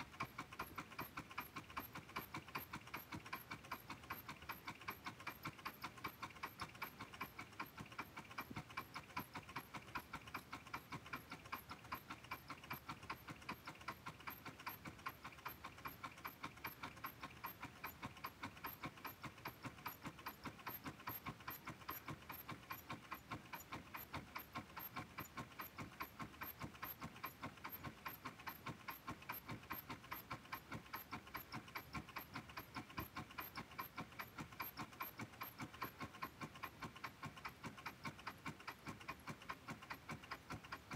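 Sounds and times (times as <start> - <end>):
stirling engine clicking: 0.0 - 40.9.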